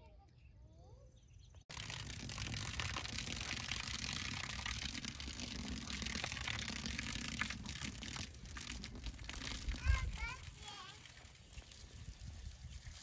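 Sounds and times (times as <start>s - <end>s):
garden hose spraying water: 1.7s - 13.0s.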